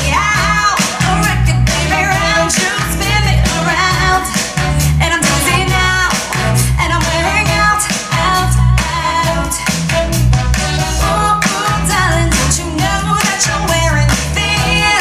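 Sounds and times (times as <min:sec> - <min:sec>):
pop-rock song: 0:00.0 - 0:15.0.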